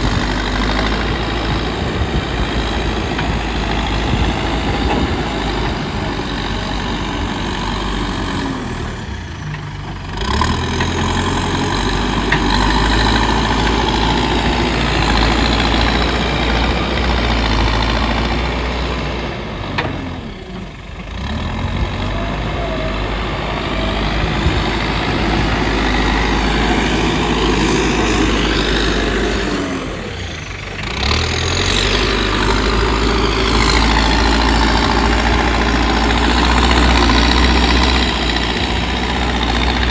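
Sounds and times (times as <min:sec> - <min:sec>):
digger diesel engine working: 0:00.0 - 0:39.9.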